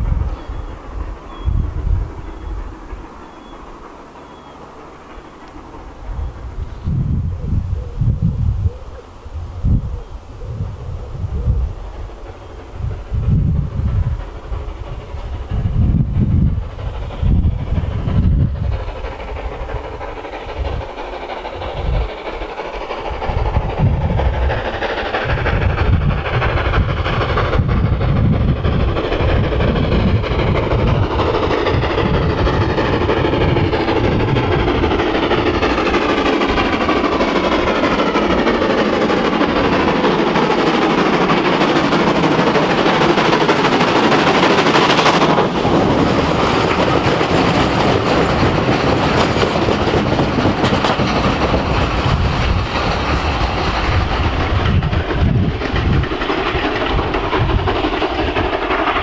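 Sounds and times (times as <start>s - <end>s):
steam locomotive exhaust beats: 0.0s - 59.0s
coach wheels clattering: 10.8s - 59.0s.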